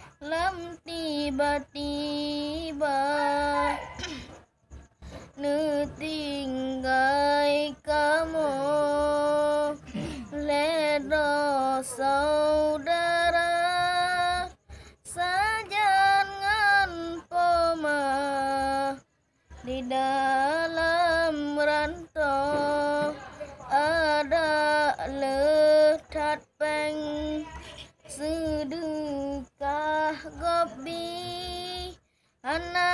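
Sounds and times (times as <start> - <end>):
boy singing in a high voice: 0.0 - 32.9.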